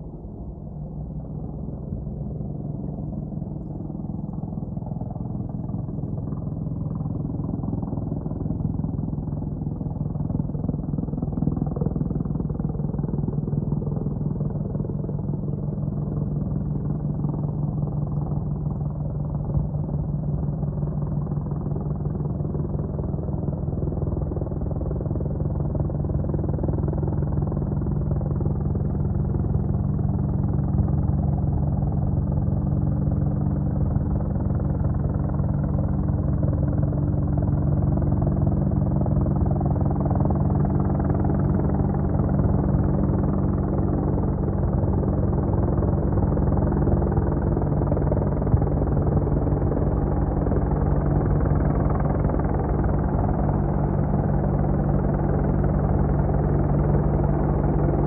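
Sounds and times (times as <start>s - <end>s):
helicopter rotor beating: 0.0s - 58.0s
low hum: 0.0s - 58.0s.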